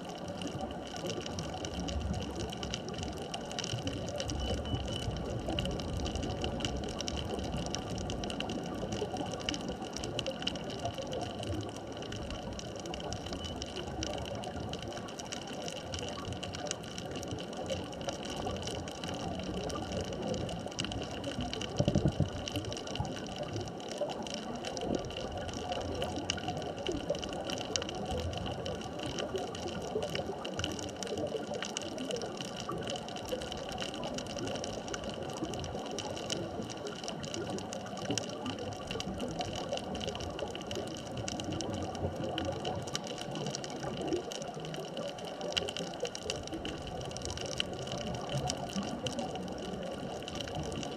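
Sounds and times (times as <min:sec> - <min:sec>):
faint constant tones: 0:00.0 - 0:50.9
underwater crackling hiss: 0:00.0 - 0:50.9.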